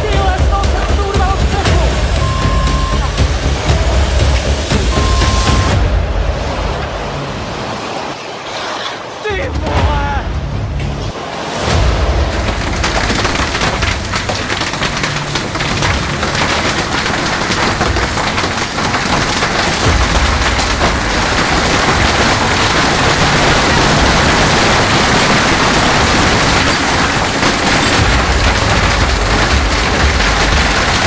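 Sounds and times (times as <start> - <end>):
hailstones clattering: 0.0 - 5.8, 11.6 - 31.0
roar of heavy precipitation: 1.8 - 8.2, 11.2 - 31.0.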